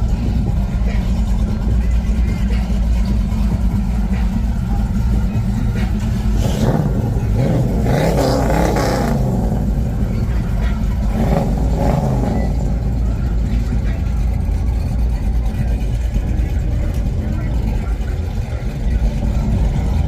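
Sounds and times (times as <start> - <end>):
car engine rumbling and revving: 0.0 - 20.0.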